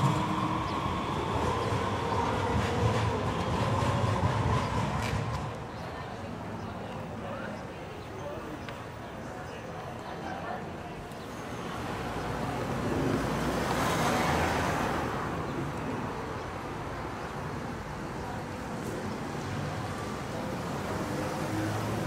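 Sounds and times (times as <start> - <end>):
trolleybus rolling up: 0.0 - 22.0.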